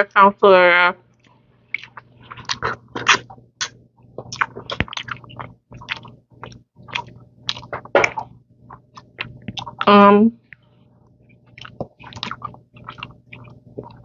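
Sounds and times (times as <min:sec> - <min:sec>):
chewing food with mouth smacks: 0:01.2 - 0:09.9, 0:10.5 - 0:14.0.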